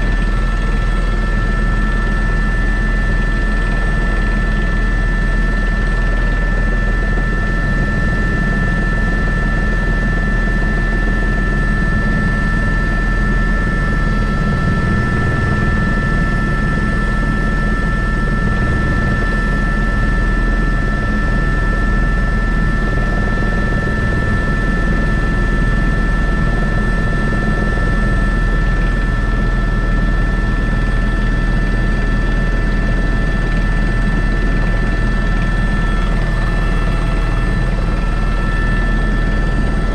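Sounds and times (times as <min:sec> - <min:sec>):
helicopter rotor beating: 0:00.0 - 0:39.9
high-pitched engine whine: 0:00.0 - 0:39.9.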